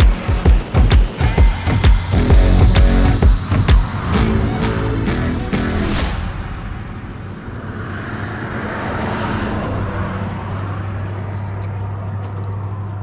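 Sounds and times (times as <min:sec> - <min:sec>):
road noise: 0:01.2 - 0:13.0.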